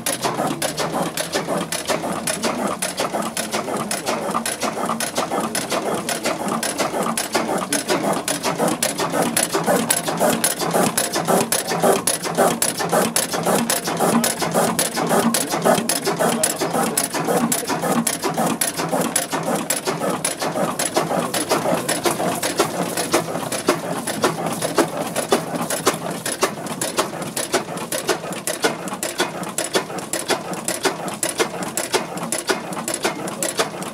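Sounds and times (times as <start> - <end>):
stationary engine clattering: 0.0 - 33.9.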